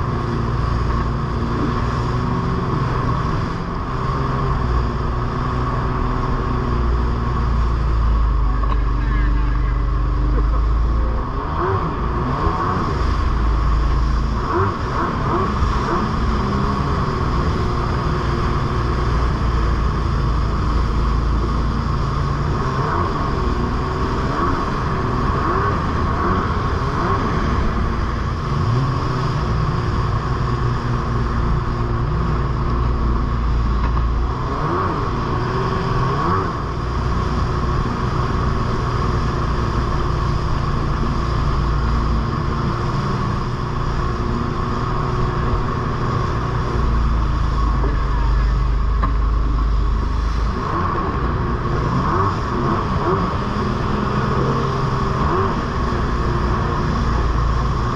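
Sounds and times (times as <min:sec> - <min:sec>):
jet ski engine revving: 0:00.0 - 0:57.9.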